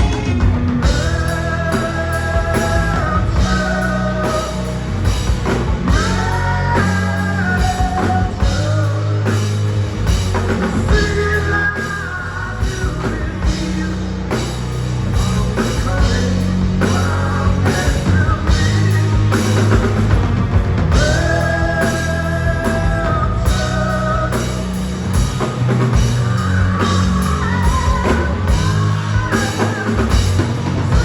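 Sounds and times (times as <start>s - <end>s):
bass guitar: 0.0s - 31.0s
drum kit with cymbal hits: 0.0s - 31.0s.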